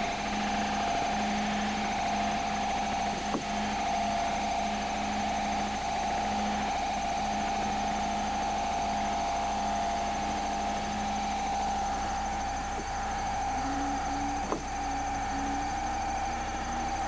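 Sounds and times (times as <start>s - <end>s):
low synthesizer tone: 0.0s - 17.0s
synthesizer wavering drone: 0.0s - 17.0s.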